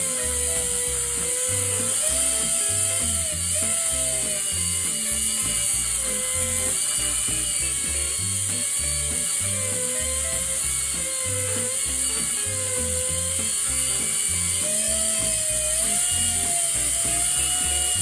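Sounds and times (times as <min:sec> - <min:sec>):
bass line: 0:00.0 - 0:18.0.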